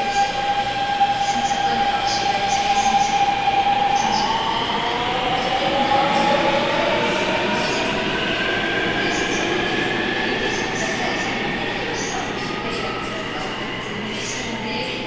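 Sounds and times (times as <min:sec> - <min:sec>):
subway motors whining: 0:00.0 - 0:15.0.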